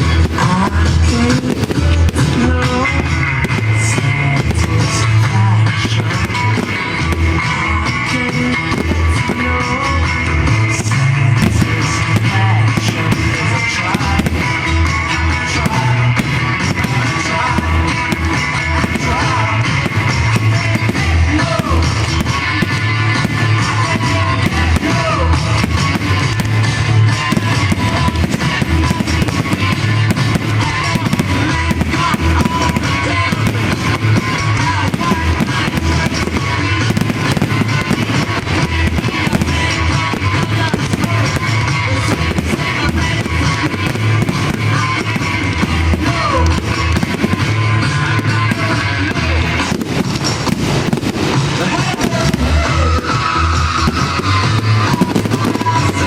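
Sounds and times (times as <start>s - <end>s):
fireworks bangs and crackles: 0.0s - 56.0s
loud rock music: 0.0s - 56.0s.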